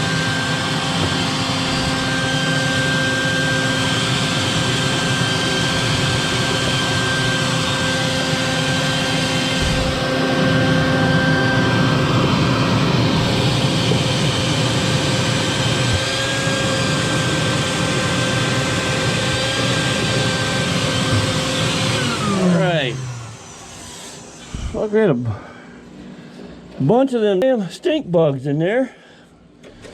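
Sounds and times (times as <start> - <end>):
vacuum cleaner running: 0.0 - 27.3.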